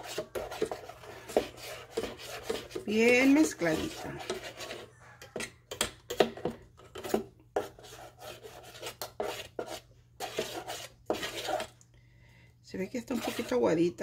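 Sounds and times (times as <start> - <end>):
spoon scraping metal bowl: 0.0 - 11.8, 12.8 - 14.0.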